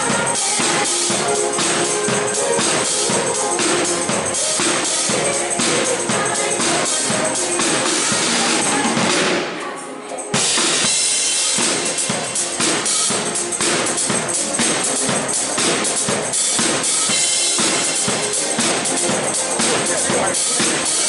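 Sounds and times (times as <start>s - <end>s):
pop song with drum beat: 0.0s - 21.0s.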